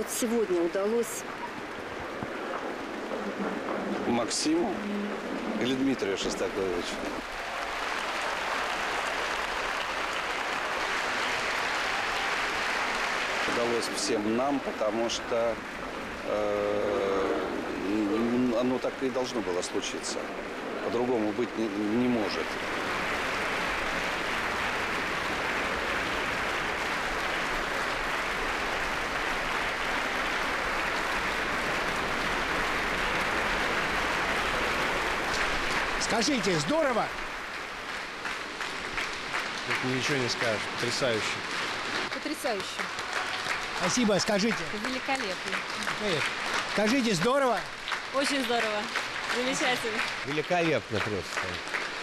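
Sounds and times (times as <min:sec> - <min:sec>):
audience applauding: 0:05.6 - 0:52.0.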